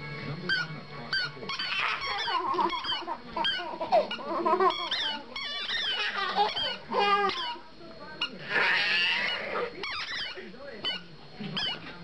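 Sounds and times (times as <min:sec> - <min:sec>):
squeaky dog toy squeaking: 0:00.5 - 0:07.6, 0:08.2 - 0:11.8.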